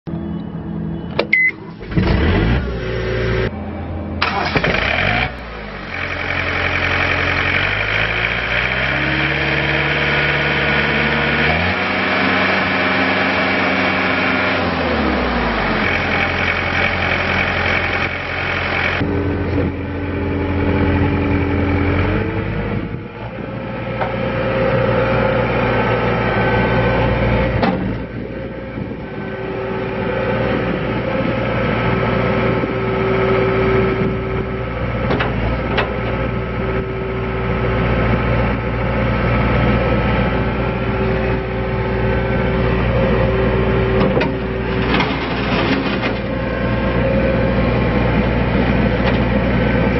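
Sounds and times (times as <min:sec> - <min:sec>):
diesel engine revving: 0:00.2 - 0:49.9.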